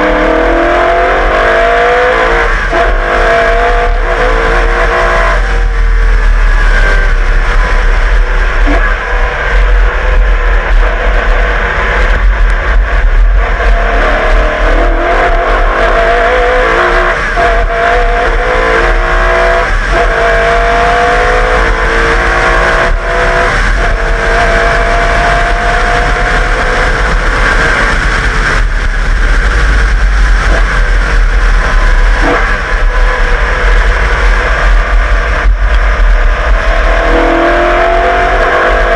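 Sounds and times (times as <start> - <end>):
race car accelerating hard: 0.0 - 38.9.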